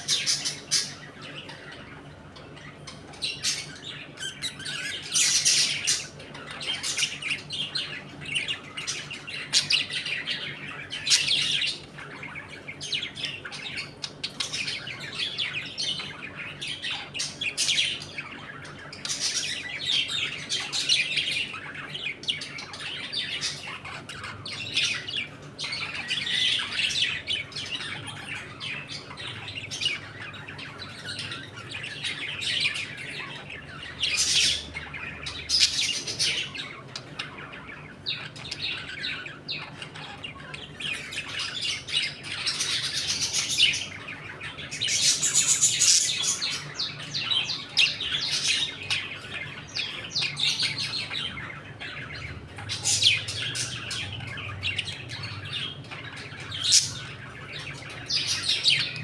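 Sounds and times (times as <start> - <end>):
budgerigars chattering: 0.0 - 59.0.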